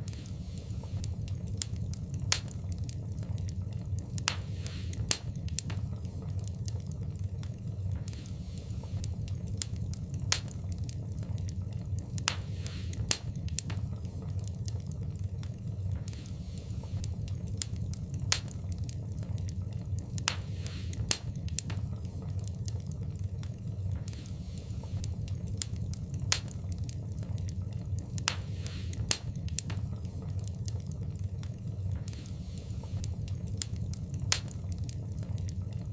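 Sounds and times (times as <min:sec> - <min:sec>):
low rumble of fire: 0:00.0 - 0:35.9
wood fire crackling and popping: 0:00.0 - 0:35.9.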